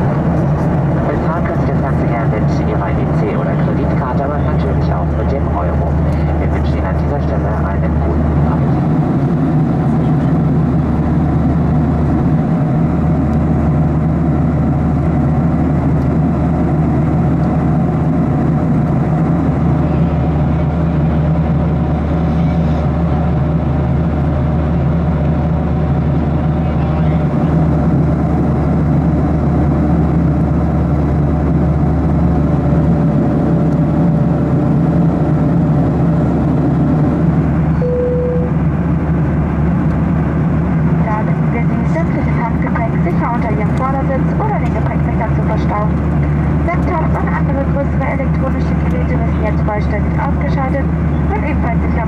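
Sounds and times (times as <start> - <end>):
air rushing along fuselage: 0.0 - 52.0
jet engines in cabin: 0.0 - 52.0.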